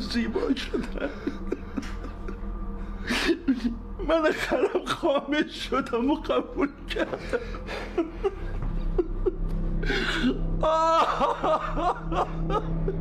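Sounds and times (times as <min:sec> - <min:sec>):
elderly man sobbing: 0:00.0 - 0:13.0.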